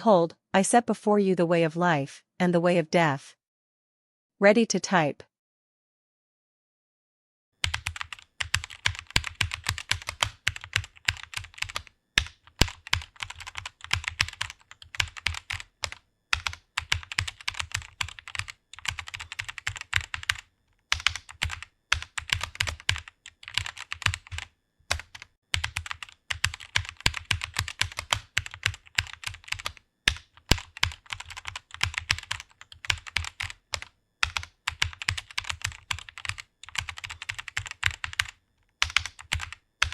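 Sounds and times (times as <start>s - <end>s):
keyboard typing: 7.6s - 39.9s.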